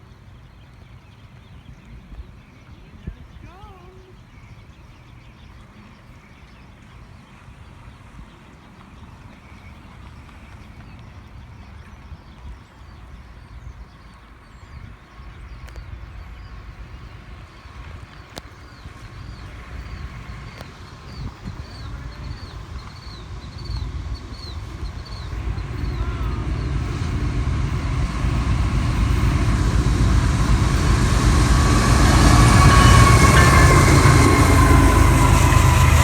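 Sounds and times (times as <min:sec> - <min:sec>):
freight train rumble: 0:07.0 - 0:36.0.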